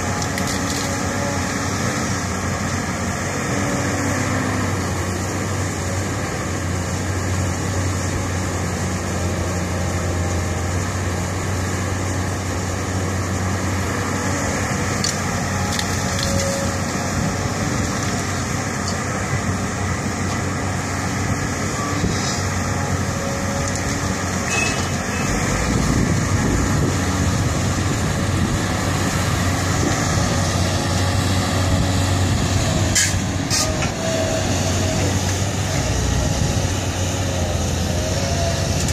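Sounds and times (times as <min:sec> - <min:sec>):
dump truck engine rumble: 0:00.0 - 0:38.9
excavator diesel engine running: 0:00.0 - 0:38.9.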